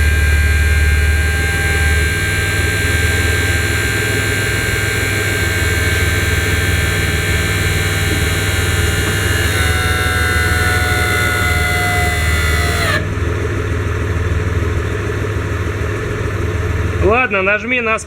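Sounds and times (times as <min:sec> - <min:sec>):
heavy low hum: 0:00.0 - 0:17.5
hydraulic pump whine: 0:00.0 - 0:17.9
engine idling: 0:00.0 - 0:18.0.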